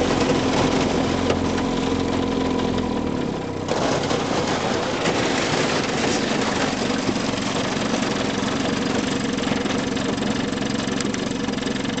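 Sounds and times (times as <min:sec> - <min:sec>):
ice crackling against hull: 0:00.0 - 0:12.0
outboard motor running: 0:00.0 - 0:12.0.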